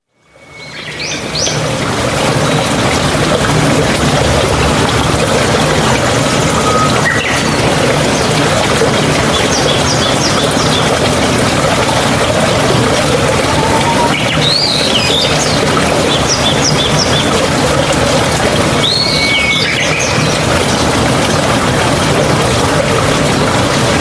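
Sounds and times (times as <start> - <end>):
mountain stream rushing: 1.0 - 24.0.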